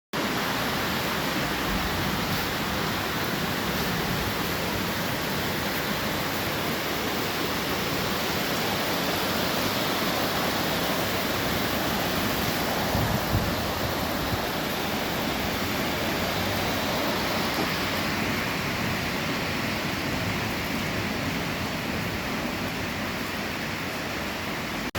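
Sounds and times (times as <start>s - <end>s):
heavy rain pouring: 0.2s - 24.9s.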